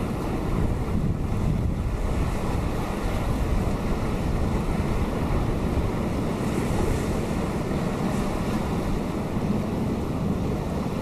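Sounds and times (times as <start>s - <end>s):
deep rumble of surf: 0.0s - 11.0s
waves breaking on rocky shore: 0.0s - 11.0s.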